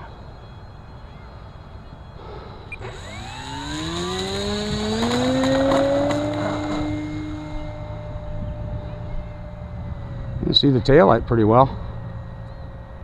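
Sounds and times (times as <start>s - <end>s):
electric model plane motor whine: 0.0s - 13.0s.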